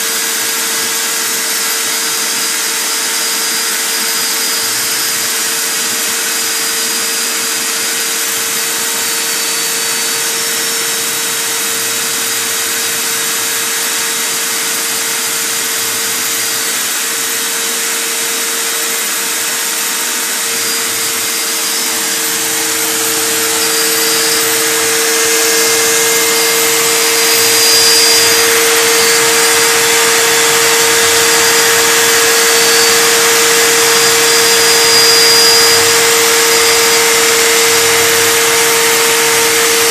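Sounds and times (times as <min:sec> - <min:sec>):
router spindle whine: 0:00.0 - 0:39.9
machining hiss: 0:03.4 - 0:39.9.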